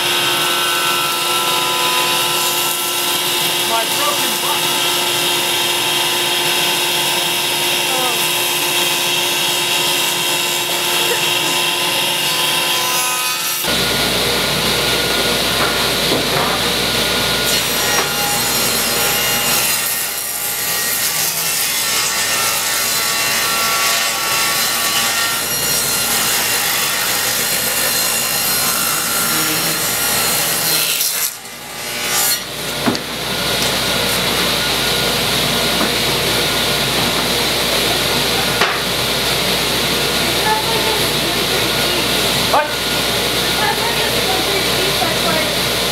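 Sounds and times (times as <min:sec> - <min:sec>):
table saw cutting wood: 0:00.0 - 0:45.9.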